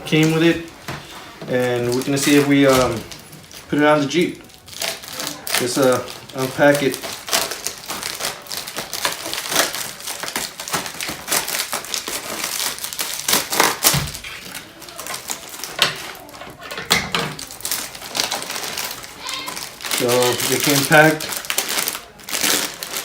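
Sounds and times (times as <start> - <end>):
packaging crinkling: 0.0 - 23.0.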